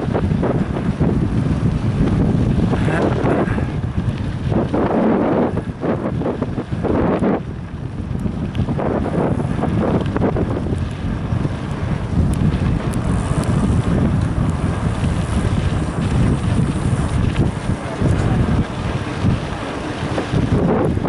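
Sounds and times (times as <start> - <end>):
heavy rumble of bike ride: 0.0 - 21.0
wind buffeting microphone: 0.0 - 21.0.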